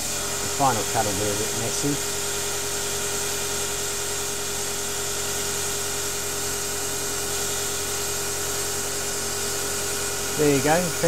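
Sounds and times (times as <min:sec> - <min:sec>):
lathe humming with whine: 0:00.0 - 0:11.0.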